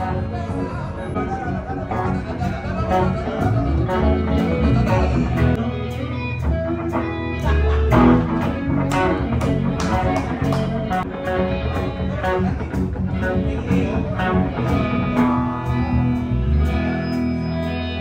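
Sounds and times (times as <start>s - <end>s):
bass guitar: 0.0s - 18.0s
electric guitars through amplifiers: 0.0s - 18.0s
live rock band playing: 0.0s - 18.0s.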